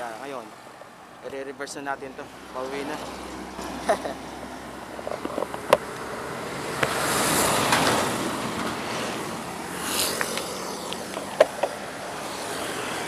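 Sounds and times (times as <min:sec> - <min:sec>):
road and wind noise: 0:00.0 - 0:13.0
motor vehicle passing: 0:02.0 - 0:13.0.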